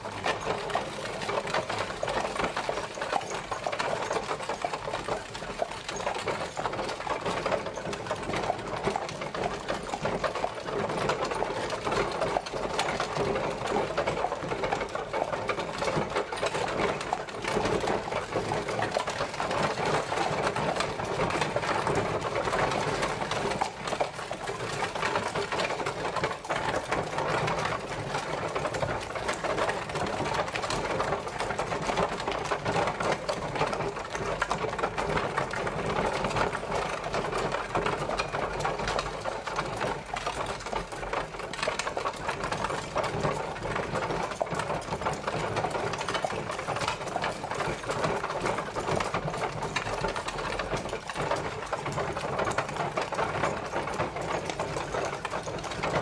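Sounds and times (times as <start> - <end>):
horse-drawn carriage rattling: 0.0 - 56.0.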